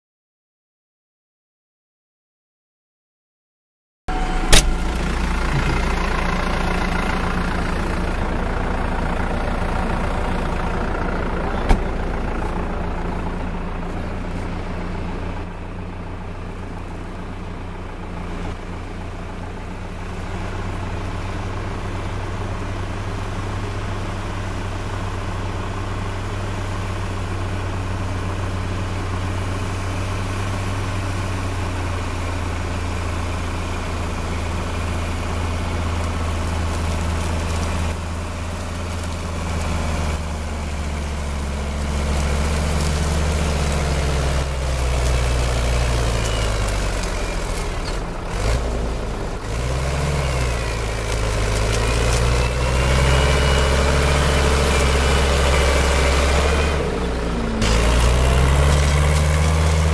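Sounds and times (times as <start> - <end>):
tractor diesel engine drone: 4.1 - 59.9.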